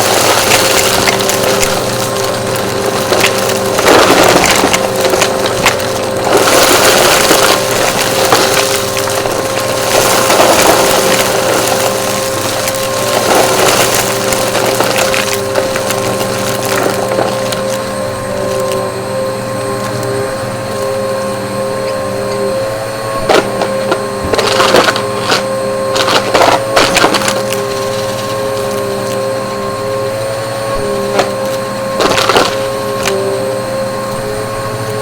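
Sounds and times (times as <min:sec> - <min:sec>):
debris crackling through nozzle: 0:00.0 - 0:21.1, 0:23.2 - 0:35.0
vacuum cleaner motor whine: 0:00.0 - 0:35.0.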